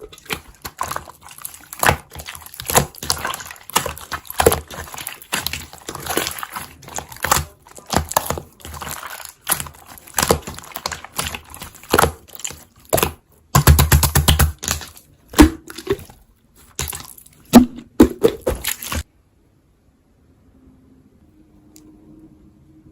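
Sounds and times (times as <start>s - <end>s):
slime squished by hand: 0.0s - 19.1s.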